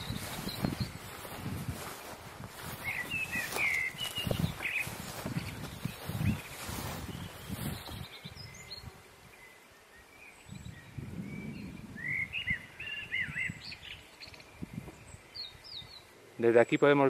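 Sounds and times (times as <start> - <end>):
small bird chirping: 0.0 - 16.1.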